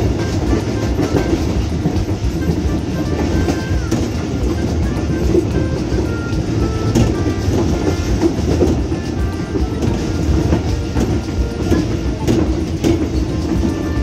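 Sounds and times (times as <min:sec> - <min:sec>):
background music: 0:00.0 - 0:14.0
train rumble with wheel clatter: 0:00.0 - 0:14.0.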